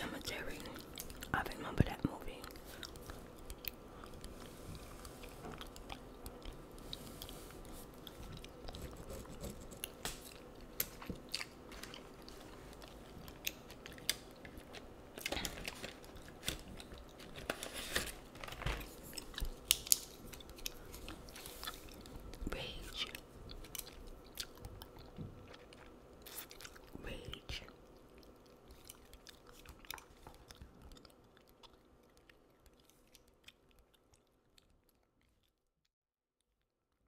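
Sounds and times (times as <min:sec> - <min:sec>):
gum chewing smacks and clicks: 0:00.2 - 0:17.4, 0:19.0 - 0:35.7.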